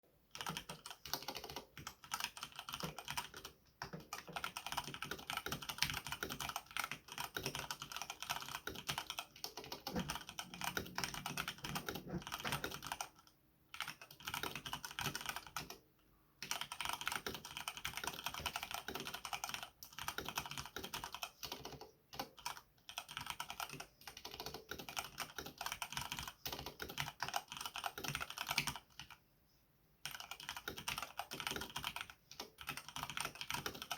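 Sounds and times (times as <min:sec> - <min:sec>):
mechanical keyboard typing: 0:00.3 - 0:15.8, 0:16.4 - 0:29.2, 0:30.0 - 0:33.9.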